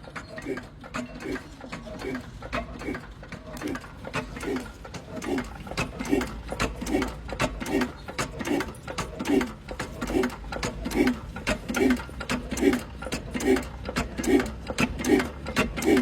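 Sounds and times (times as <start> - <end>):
machine mechanism clacking: 0.0 - 16.0.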